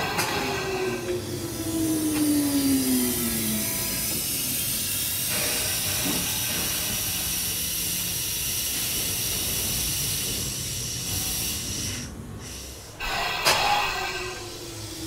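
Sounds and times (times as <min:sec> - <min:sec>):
electric train hiss and whine: 0:00.0 - 0:15.0
train wheels rolling over rails: 0:00.0 - 0:15.0.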